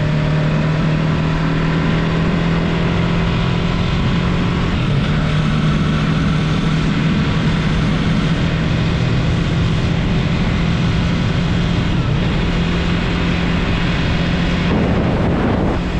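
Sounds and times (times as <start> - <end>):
motorcycle engine running: 0.0 - 15.9
wind and road noise: 0.0 - 15.9.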